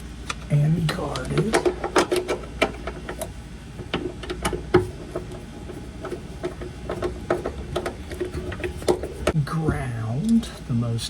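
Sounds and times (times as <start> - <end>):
steady low hum: 0.0 - 11.0
parts clicking and tapping: 0.2 - 10.5.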